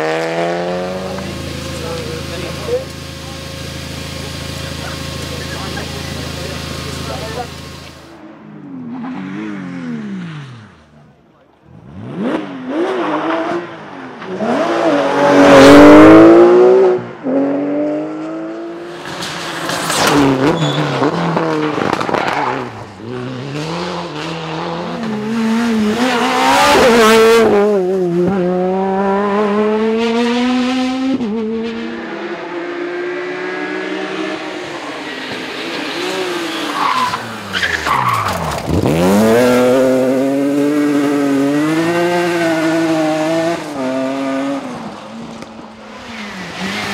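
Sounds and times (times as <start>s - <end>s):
rally cars passing at high revs: 0.0s - 46.9s.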